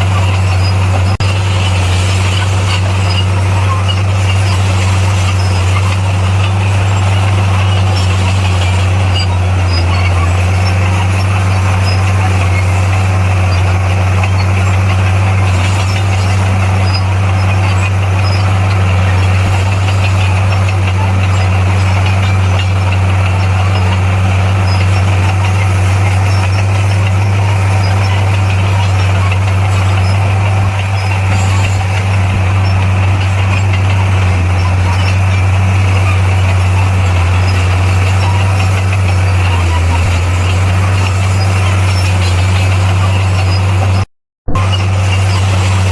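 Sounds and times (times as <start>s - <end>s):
heavy diesel engine droning: 0.0s - 45.9s.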